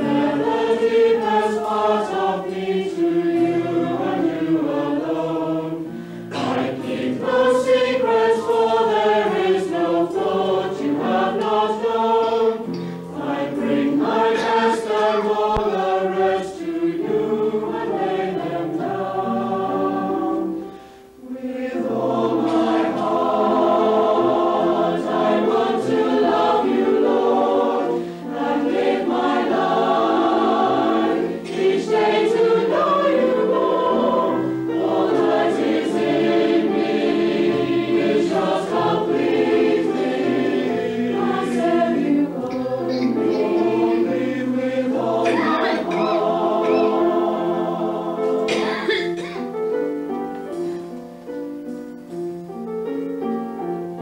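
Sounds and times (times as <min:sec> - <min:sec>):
mixed choir singing: 0:00.0 - 0:49.7.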